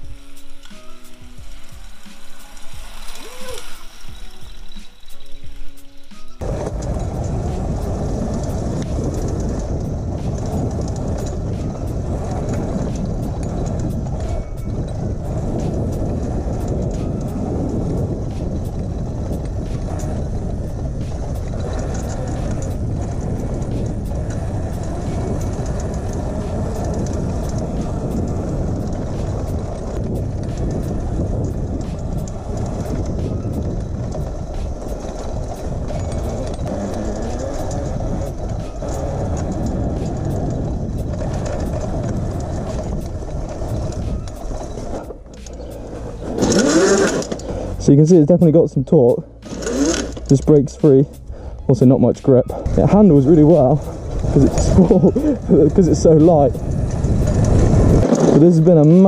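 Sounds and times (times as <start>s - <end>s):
bike chain and frame rattling: 0.0s - 59.0s
wind rumble on microphone: 6.0s - 59.0s.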